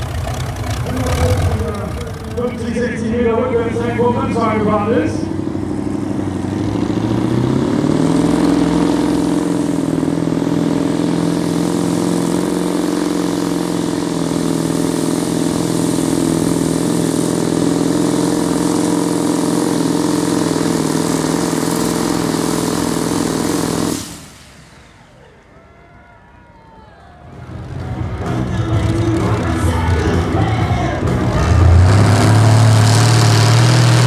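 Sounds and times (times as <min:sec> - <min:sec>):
tractor engine at high revs: 0:00.0 - 0:25.1, 0:27.3 - 0:34.0.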